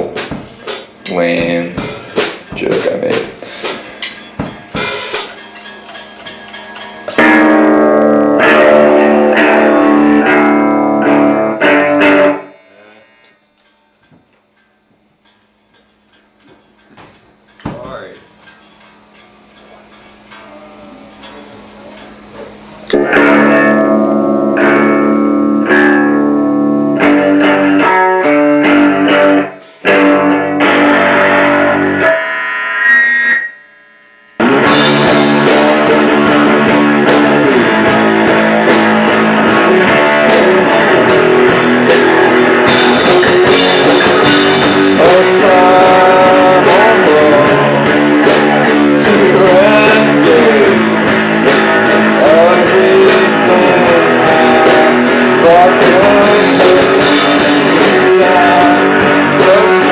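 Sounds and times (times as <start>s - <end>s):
rock band playing: 0.0s - 13.2s, 22.9s - 59.9s
clean electric guitar: 0.0s - 16.4s, 17.0s - 59.9s.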